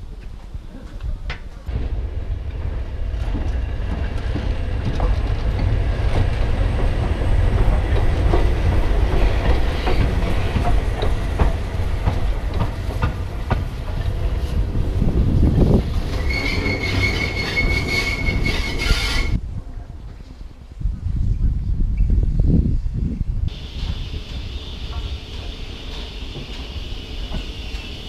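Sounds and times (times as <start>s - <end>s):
steam locomotive rumble: 0.0s - 19.4s, 23.5s - 28.0s
train wheels clicking over rail joints: 1.2s - 19.4s, 23.5s - 28.0s.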